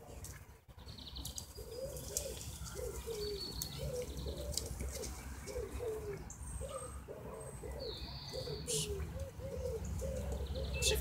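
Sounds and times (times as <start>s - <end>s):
pigeon cooing: 1.6s - 11.0s.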